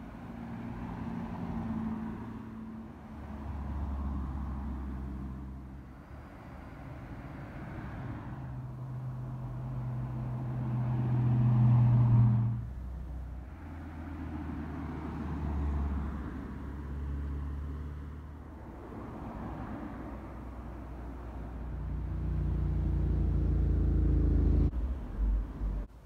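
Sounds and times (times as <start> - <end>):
car engine passing close: 0.0 - 25.9
rumble of passing cars: 0.0 - 26.0.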